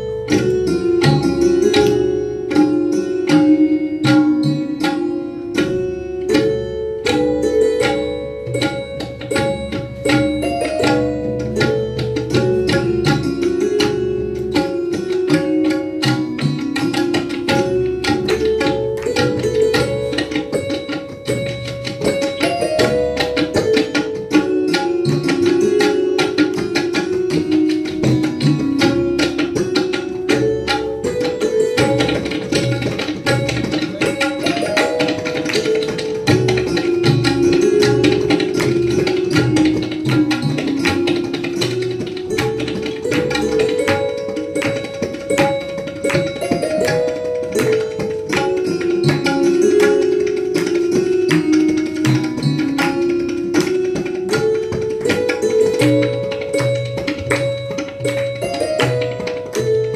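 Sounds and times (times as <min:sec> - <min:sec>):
tabla drumming: 0:00.0 - 0:59.9.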